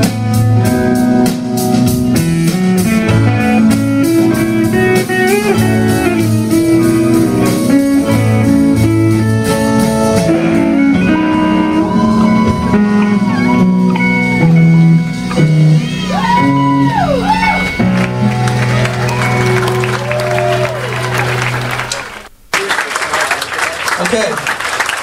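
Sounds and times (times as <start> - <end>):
plucked guitar: 0.0 - 22.2.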